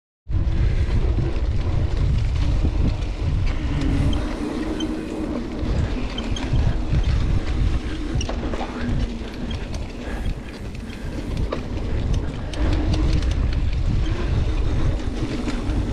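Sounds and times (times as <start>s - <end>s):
mountain bike rumbling and rattling: 0.3s - 15.9s
wind buffeting microphone: 0.3s - 15.9s
small clicks and ticks: 0.6s - 15.9s.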